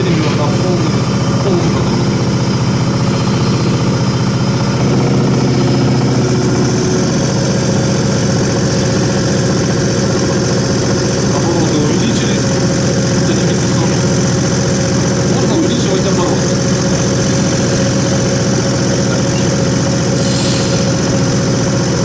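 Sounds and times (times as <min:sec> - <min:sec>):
fuel pump mechanical drone: 0:00.0 - 0:22.0.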